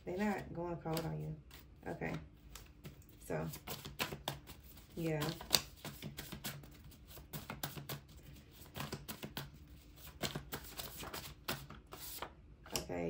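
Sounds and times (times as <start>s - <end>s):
cards being shuffled: 0.3s - 12.9s.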